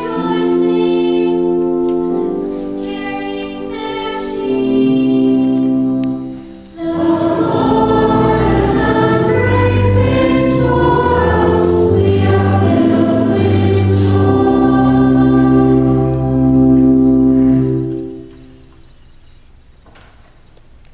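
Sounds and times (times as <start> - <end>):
congregation singing a hymn: 0.0 - 18.8
sustained keyboard accompaniment: 0.0 - 19.5.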